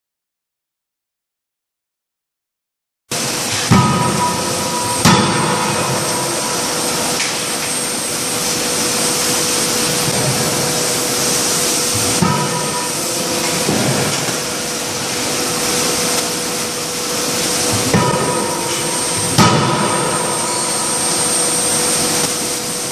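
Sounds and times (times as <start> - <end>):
forging machine blows on steel: 3.1 - 22.9
machine hum: 3.1 - 22.9
steady loud hiss: 3.1 - 22.9.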